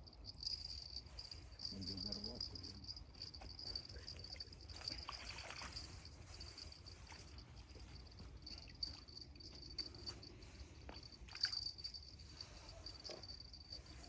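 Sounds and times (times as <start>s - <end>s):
crickets trilling: 0.0s - 14.0s
faint ticks and rustles: 0.0s - 14.0s.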